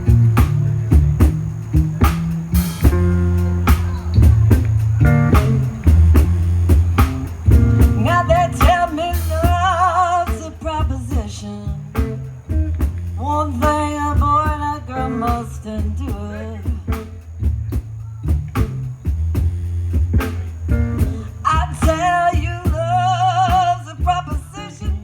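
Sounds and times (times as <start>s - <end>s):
blues band playing: 0.0s - 25.0s.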